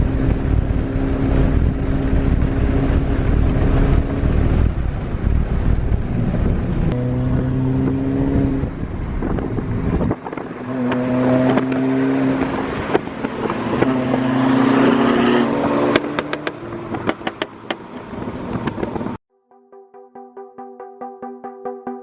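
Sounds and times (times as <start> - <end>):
car moving: 0.0 - 19.2
wind buffeting microphone: 0.0 - 19.2.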